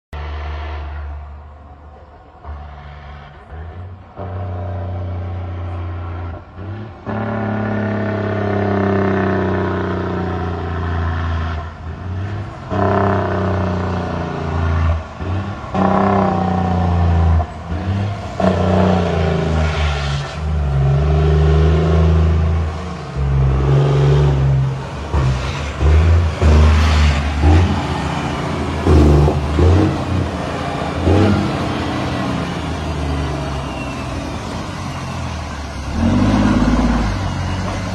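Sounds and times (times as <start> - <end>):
diesel truck accelerating past: 0.2 - 37.9.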